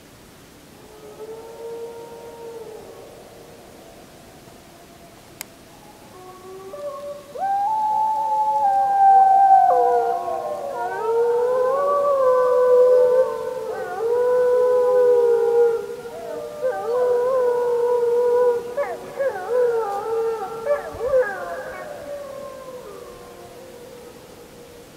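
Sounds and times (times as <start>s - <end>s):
wolves howling in chorus: 0.9s - 24.9s.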